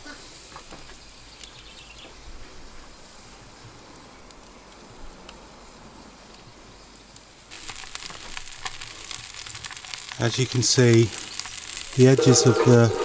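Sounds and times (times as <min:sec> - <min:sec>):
wood fire hissing and crackling: 0:00.0 - 0:13.0.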